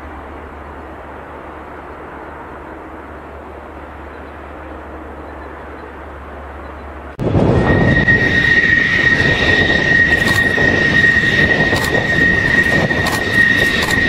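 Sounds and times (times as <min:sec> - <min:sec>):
jet engine whining and roaring: 0:00.0 - 0:14.0.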